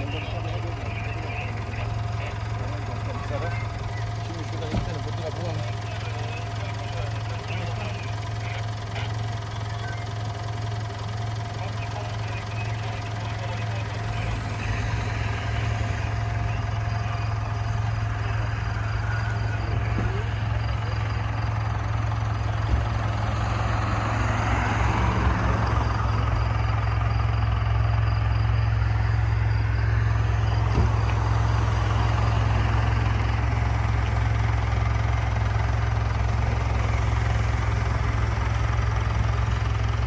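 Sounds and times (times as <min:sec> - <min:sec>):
road and wind noise: 0:00.0 - 0:40.0
vehicle engine running: 0:00.0 - 0:40.0.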